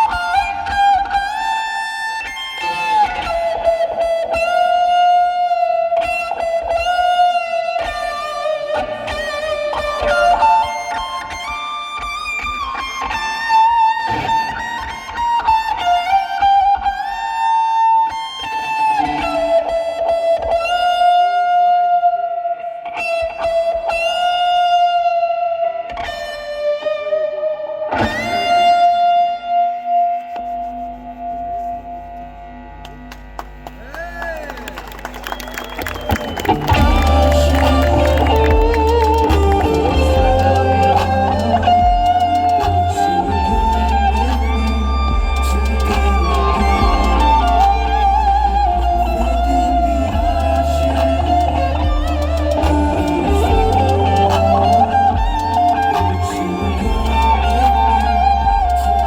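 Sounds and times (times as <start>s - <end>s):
electric guitar sliding lead melody: 0.0s - 59.0s.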